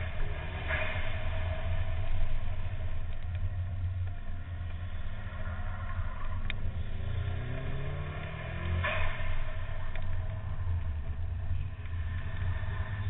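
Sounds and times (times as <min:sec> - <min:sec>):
rally car engine rumbling: 0:00.0 - 0:13.0.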